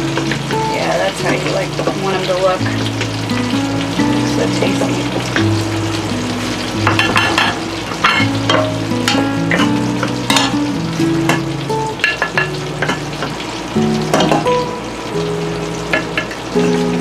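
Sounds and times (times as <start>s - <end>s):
fish frying in a pan: 0.0s - 17.0s.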